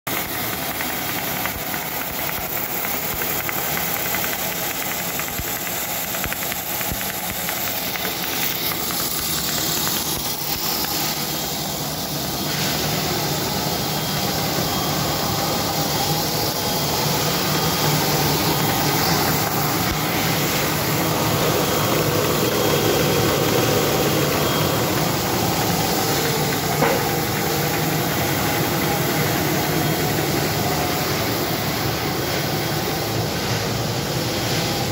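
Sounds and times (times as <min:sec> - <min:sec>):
machine whirring: 0:00.1 - 0:34.9.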